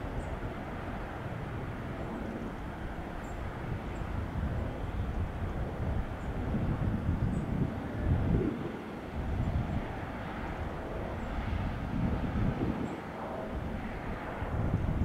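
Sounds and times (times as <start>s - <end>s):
distant jet engine rumble: 0.0s - 15.0s.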